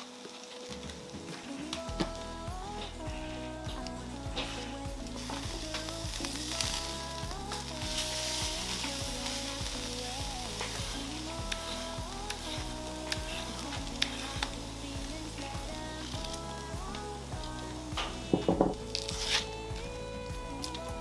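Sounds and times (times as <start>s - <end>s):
background music with slow beat: 0.0s - 21.0s
food sizzling in hot fat: 0.0s - 21.0s.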